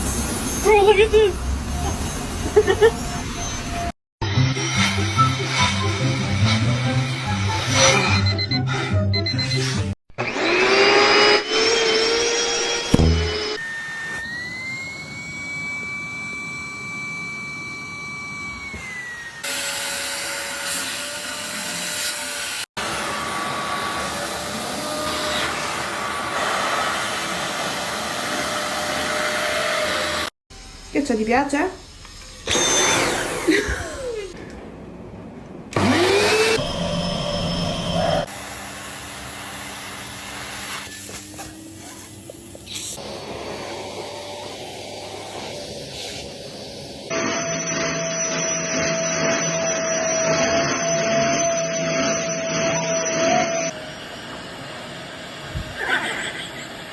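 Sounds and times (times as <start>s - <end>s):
vacuum cleaner running: 1.4s - 8.2s, 10.2s - 30.4s, 32.4s - 56.9s.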